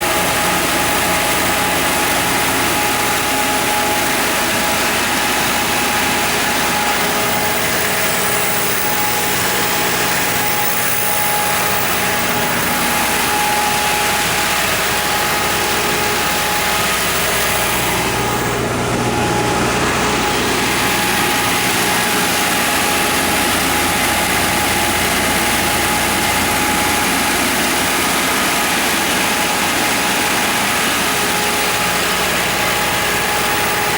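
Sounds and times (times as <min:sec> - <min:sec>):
diesel generator drone: 0:00.0 - 0:33.9
steady whine: 0:00.0 - 0:33.9.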